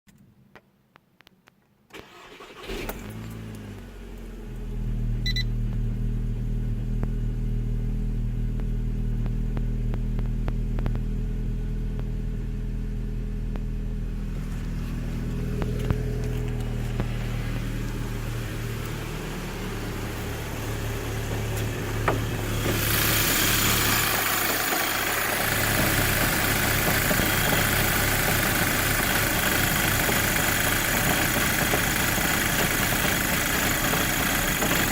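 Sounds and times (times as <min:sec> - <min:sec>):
car engine cold start and idle: 0:01.9 - 0:34.9.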